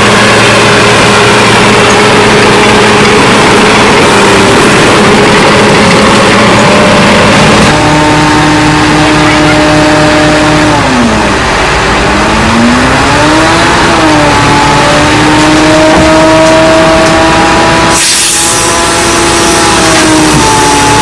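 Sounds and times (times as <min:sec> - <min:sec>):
diesel engine working under load: 0:00.0 - 0:21.0.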